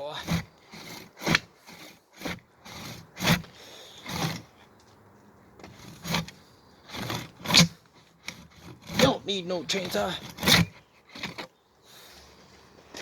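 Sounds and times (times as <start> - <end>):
handsaw cutting wood: 0.0 - 4.6, 5.6 - 11.6.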